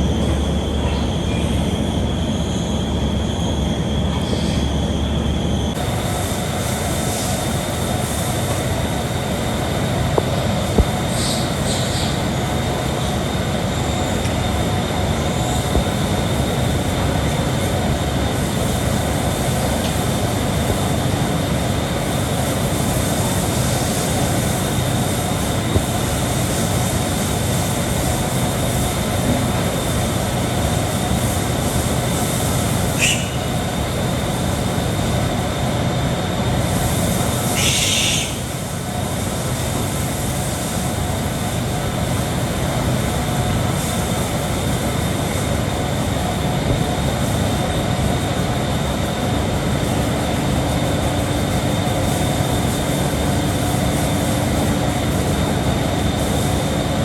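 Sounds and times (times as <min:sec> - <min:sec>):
loud mechanical rumble with hiss: 0:00.0 - 0:57.0.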